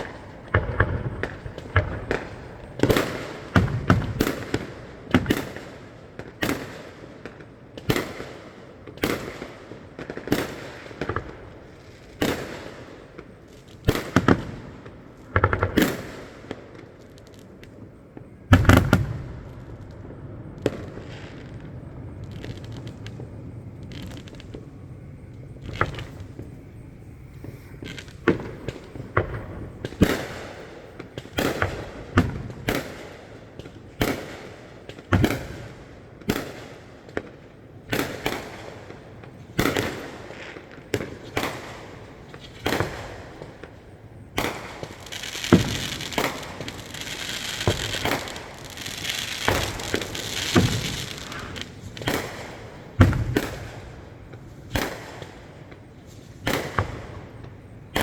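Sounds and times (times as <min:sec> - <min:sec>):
distant firework shell bursts: 0:00.0 - 0:07.0, 0:17.8 - 0:58.0
dense firework crackling: 0:00.0 - 0:58.0.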